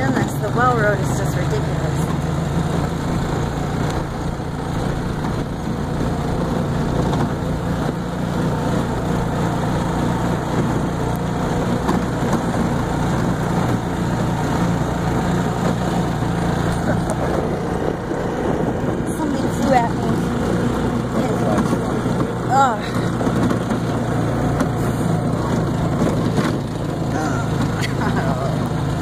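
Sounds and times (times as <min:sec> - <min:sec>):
golf cart motor humming: 0:00.0 - 0:29.0.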